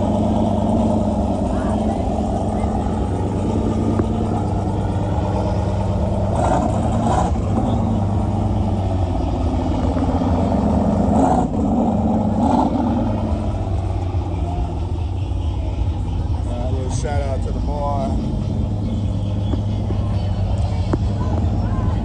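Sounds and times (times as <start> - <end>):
pickup truck engines rumbling: 0.0 - 22.0.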